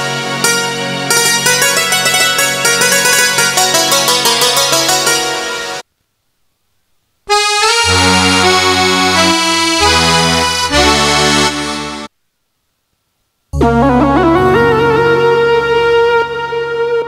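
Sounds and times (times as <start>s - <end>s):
keyboard synth chords and bass: 0.0s - 5.8s, 7.3s - 12.1s, 13.6s - 17.0s.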